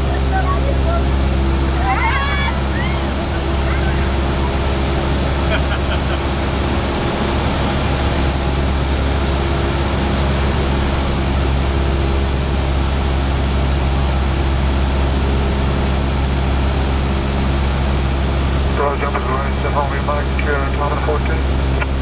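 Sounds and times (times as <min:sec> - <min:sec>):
propeller plane engine drone: 0:00.0 - 0:22.0.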